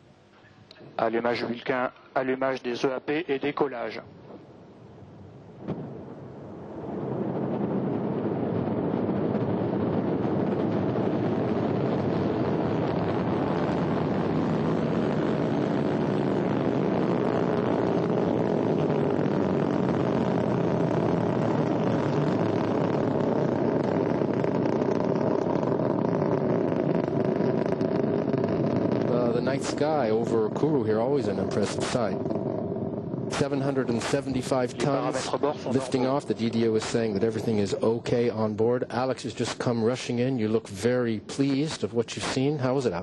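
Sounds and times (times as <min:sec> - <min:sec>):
rocket engine roar: 0:02.7 - 0:43.0.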